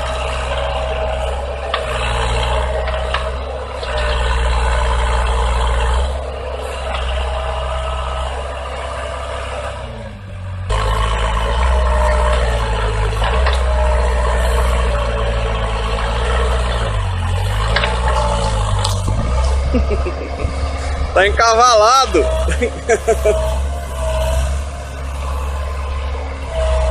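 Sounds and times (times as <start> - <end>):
heavy engine droning: 0.0 - 26.9.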